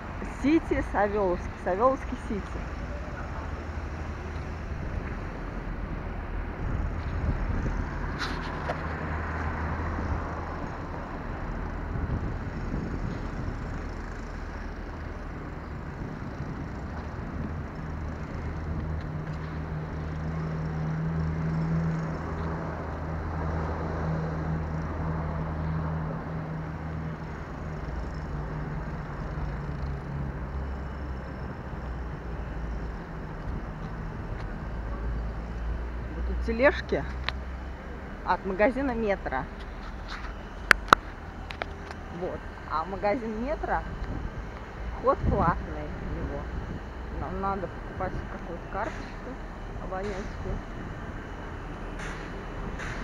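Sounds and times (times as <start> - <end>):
car engine hum: 0.0 - 53.0
road noise: 0.0 - 53.0.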